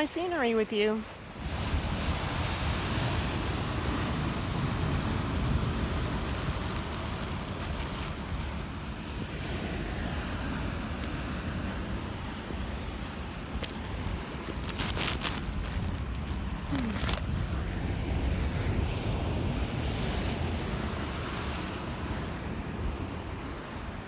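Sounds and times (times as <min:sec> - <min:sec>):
ocean waves breaking: 0:00.0 - 0:24.0
wind rumbling on microphone: 0:01.2 - 0:24.0.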